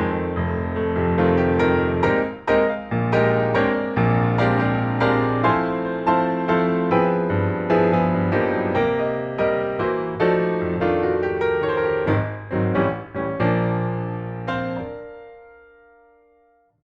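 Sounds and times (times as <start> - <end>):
gentle piano music: 0.0 - 16.8.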